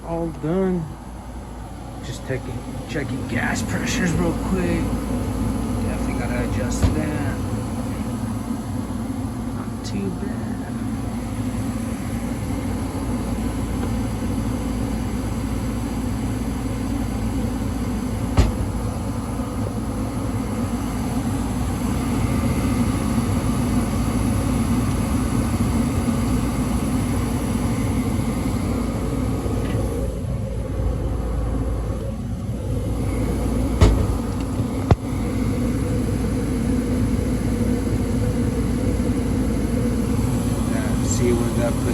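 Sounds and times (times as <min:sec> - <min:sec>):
furnace burner and blower rumbling: 0:00.0 - 0:41.9.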